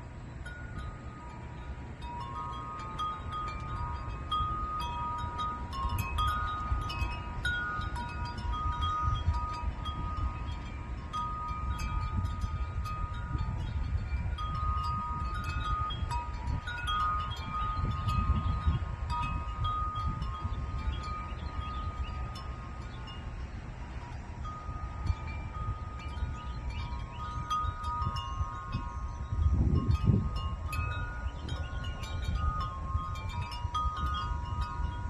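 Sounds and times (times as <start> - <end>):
wind chimes ringing: 0.0 - 35.0.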